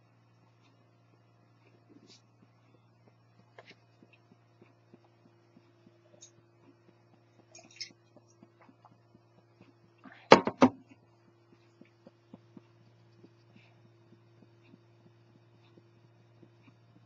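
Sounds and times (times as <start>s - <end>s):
faint steady hum: 0.0s - 17.0s
soft regular ticks: 0.1s - 10.3s, 10.9s - 17.0s.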